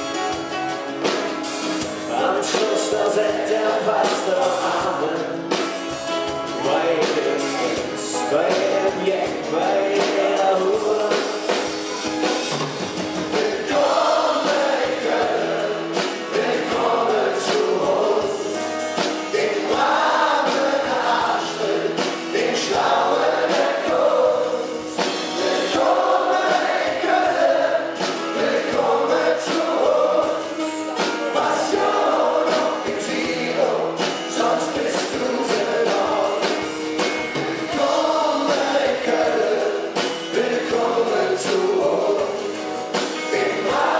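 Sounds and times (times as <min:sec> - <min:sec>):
live pop band playing: 0:00.0 - 0:43.9
men singing together: 0:01.9 - 0:11.7, 0:13.2 - 0:43.9.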